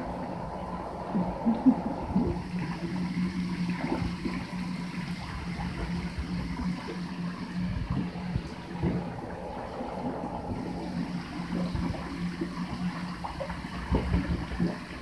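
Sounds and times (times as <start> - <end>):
shower water running into bathtub: 0.0 - 15.0
steady low hum: 0.0 - 15.0.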